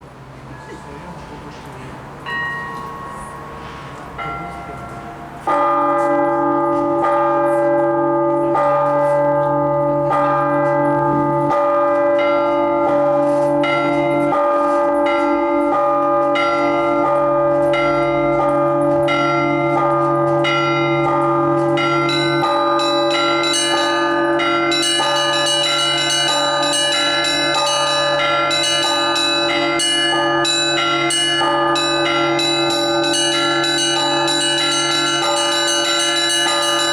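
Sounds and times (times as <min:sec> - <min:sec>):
hum of large bells: 0:00.0 - 0:36.9.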